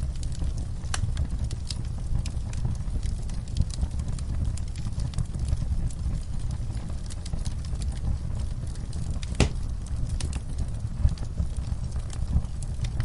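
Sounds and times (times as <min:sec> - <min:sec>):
fire crackling and popping: 0:00.0 - 0:13.0
wood fire burning: 0:00.0 - 0:13.0.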